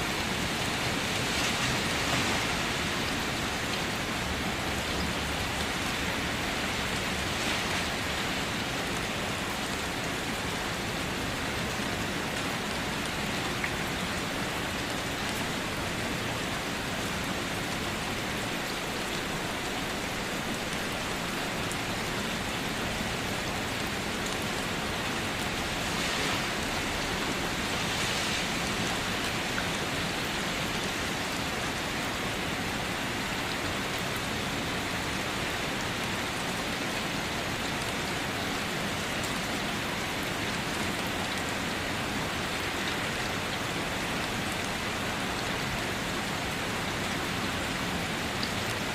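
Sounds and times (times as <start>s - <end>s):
rain pattering on a car: 0.1s - 48.9s.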